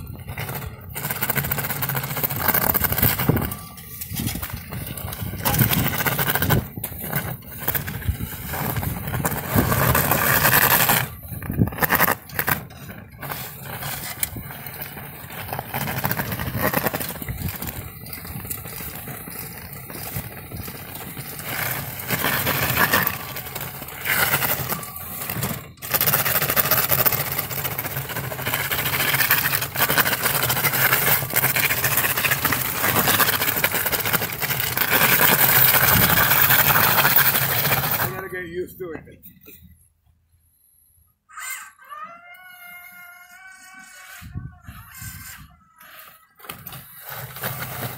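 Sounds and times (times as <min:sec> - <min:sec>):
robot wheel motors: 0:00.0 - 0:38.3, 0:41.3 - 0:47.9
plow blade scraping snow: 0:00.0 - 0:39.7, 0:45.9 - 0:47.9.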